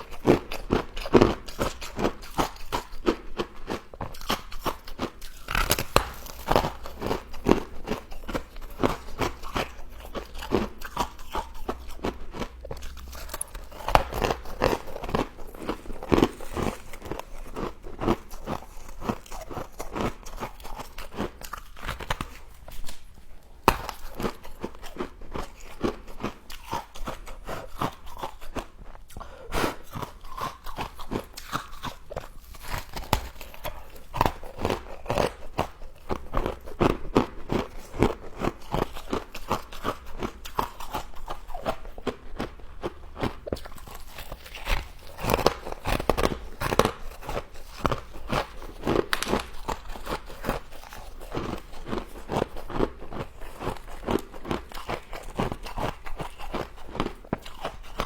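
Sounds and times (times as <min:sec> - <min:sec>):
frost crunching while chewed: 0:00.0 - 0:58.0.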